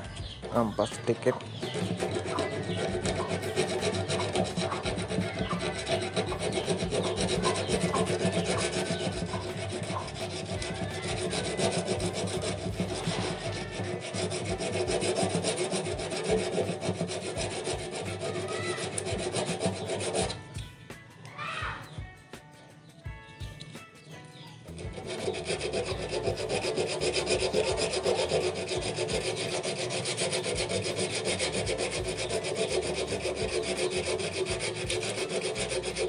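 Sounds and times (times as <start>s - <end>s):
sandpaper rubbing on metal: 0.0s - 20.4s, 24.7s - 36.0s.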